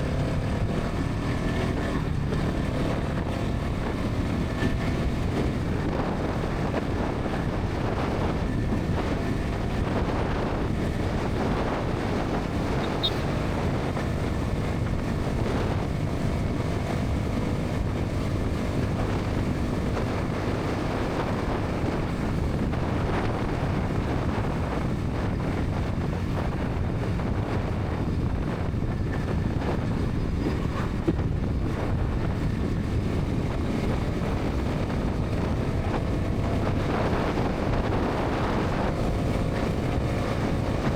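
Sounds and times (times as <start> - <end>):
motorcycle engine cruising: 0.0 - 40.9
wind rushing over microphone: 0.0 - 40.9.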